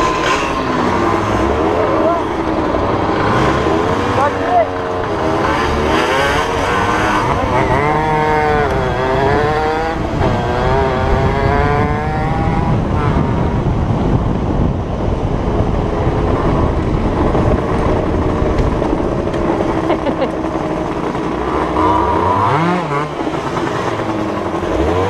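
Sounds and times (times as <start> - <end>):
dirt bike engines revving: 0.0 - 25.0
wind noise: 0.0 - 25.0.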